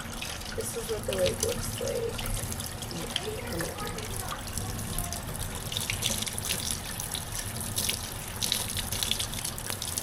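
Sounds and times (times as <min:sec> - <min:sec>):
water running from a tap: 0:00.0 - 0:10.0.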